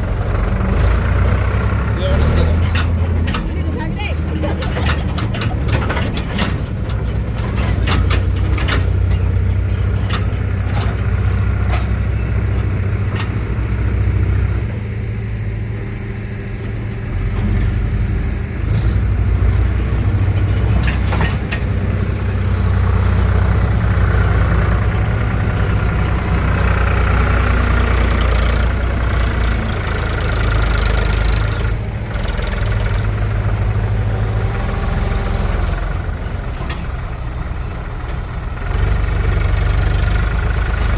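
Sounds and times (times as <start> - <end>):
heavy diesel engines running: 0.0 - 40.9
high engine whine: 0.0 - 40.9.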